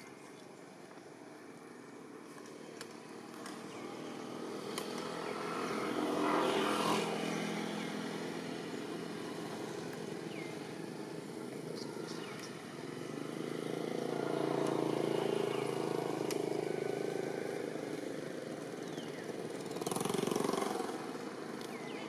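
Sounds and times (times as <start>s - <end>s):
engine passing by: 2.2s - 22.0s.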